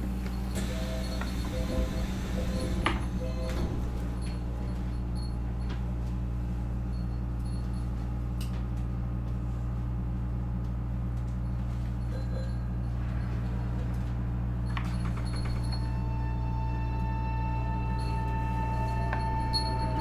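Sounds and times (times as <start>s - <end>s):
electric train interior hum: 0.0s - 20.0s.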